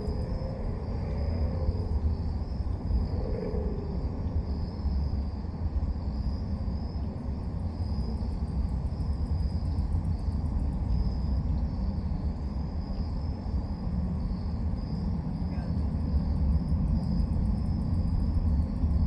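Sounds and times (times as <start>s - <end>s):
insects chirping: 0.0s - 19.0s
steady low rumble: 0.0s - 19.0s.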